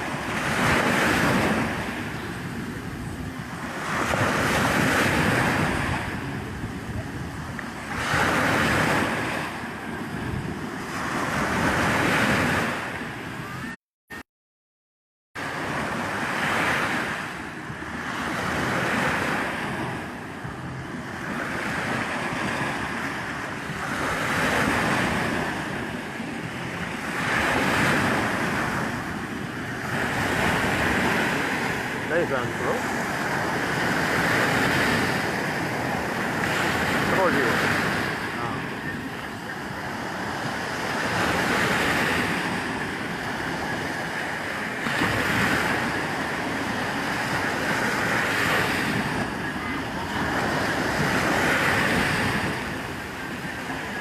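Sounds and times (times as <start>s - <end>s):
sea waves breaking on shore: 0.0s - 13.8s, 15.4s - 54.0s.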